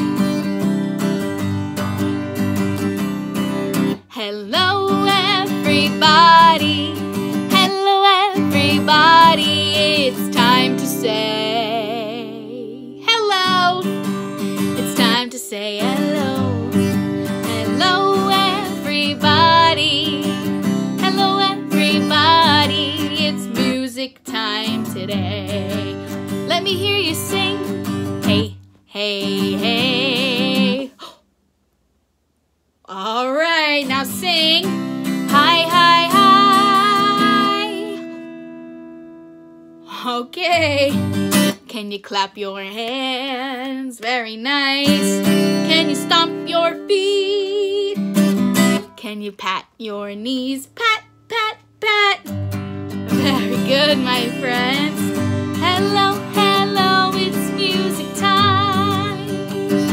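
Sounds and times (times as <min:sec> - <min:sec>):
strummed accompaniment: 0:00.0 - 0:30.8, 0:33.9 - 0:39.8, 0:40.5 - 0:41.6, 0:44.8 - 0:46.5, 0:48.0 - 0:49.0, 0:52.3 - 0:59.9
woman singing: 0:03.8 - 0:31.2, 0:32.9 - 0:38.2, 0:39.8 - 0:52.5, 0:53.1 - 0:59.9.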